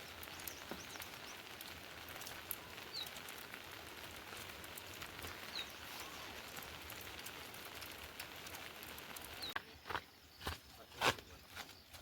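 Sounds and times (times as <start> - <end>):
sharp drips: 0.0 - 10.0
steady rain falling: 0.0 - 10.3.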